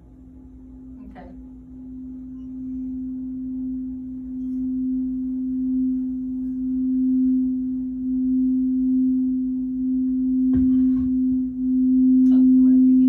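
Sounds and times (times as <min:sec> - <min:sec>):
singing bowl tone: 0:00.0 - 0:13.0.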